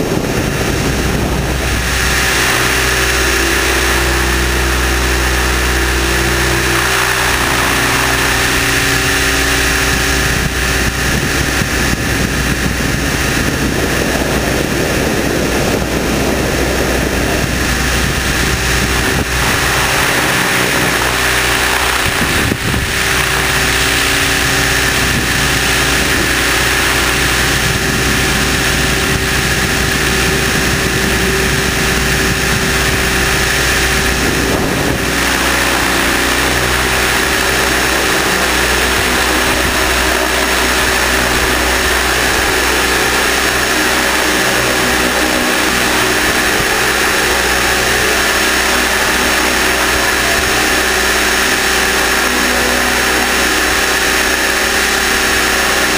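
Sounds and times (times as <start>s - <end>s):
electric motor and gears whining: 0.0s - 55.9s
helicopter rotor spinning: 0.0s - 55.9s.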